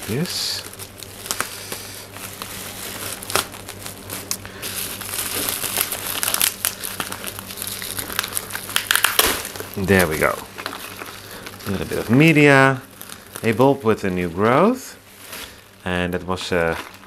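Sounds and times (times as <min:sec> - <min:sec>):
bubble wrap crinkling: 0:00.0 - 0:17.0
tape being worked at: 0:00.0 - 0:17.0.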